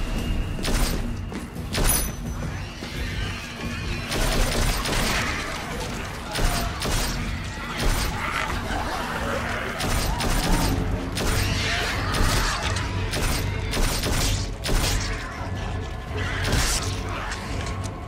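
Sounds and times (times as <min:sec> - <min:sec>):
film score music: 0:00.0 - 0:18.0.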